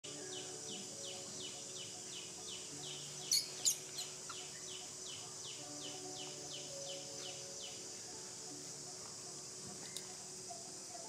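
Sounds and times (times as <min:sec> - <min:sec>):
insect hiss: 0:00.0 - 0:11.0.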